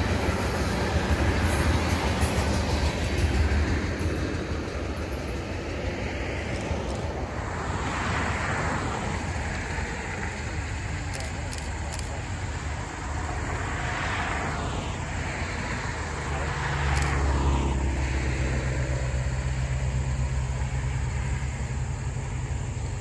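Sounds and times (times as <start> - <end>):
diesel locomotives droning: 0.0 - 23.0
vehicle rushing past: 0.0 - 23.0.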